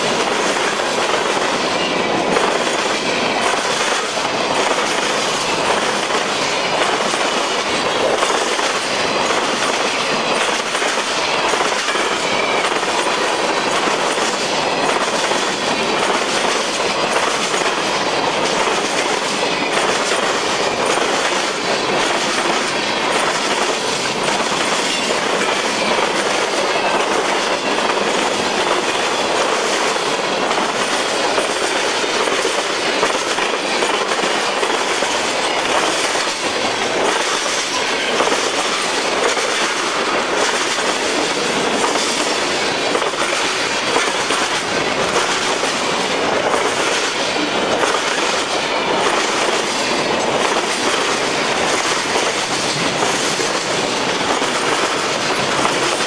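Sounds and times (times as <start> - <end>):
train wheels running on rails: 0.0 - 56.0.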